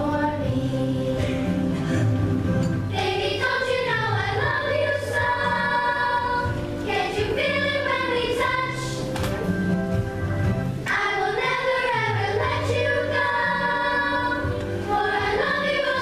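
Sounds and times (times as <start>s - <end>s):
children singing together: 0.0s - 9.3s, 10.8s - 16.0s
music accompaniment: 0.0s - 16.0s.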